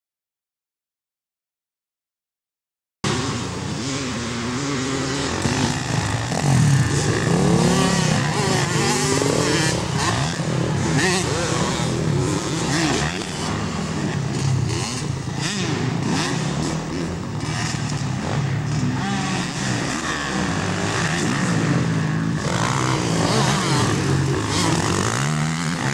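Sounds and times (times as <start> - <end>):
motocross bikes revving: 3.1 - 25.9.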